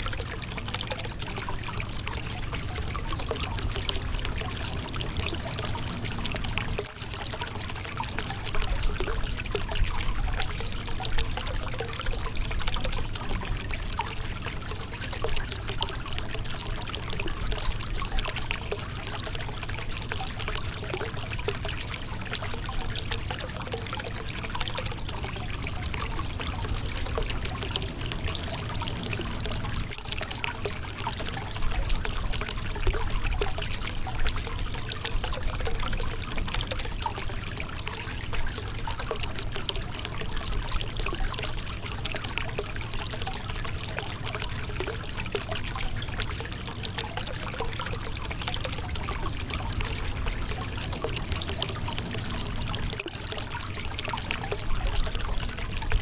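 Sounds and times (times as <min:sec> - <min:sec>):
river water over rocks: 0:00.0 - 0:56.0.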